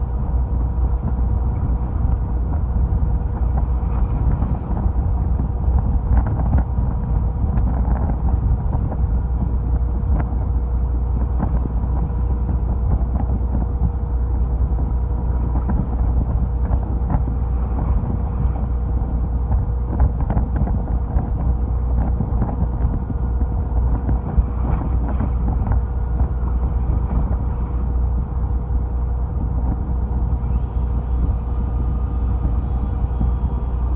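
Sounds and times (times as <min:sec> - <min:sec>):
boat engine rumbling: 0:00.0 - 0:33.9
faint steady whine: 0:00.0 - 0:33.9
wind buffeting microphone: 0:00.0 - 0:33.9.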